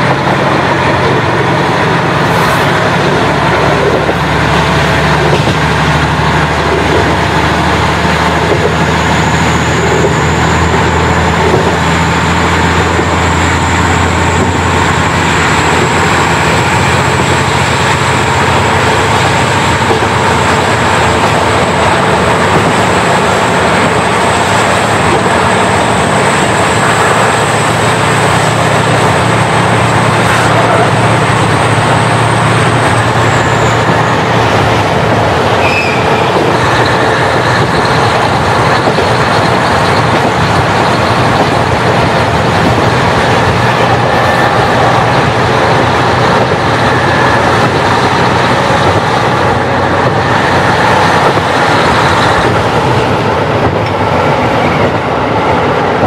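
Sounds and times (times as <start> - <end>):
diesel engine hum: 0.0 - 56.0
train wheels on rail: 0.0 - 56.0.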